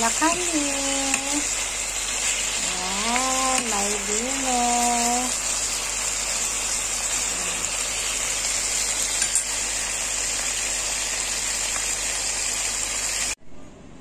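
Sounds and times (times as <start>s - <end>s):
meat sizzling in a frying pan: 0.0s - 13.4s.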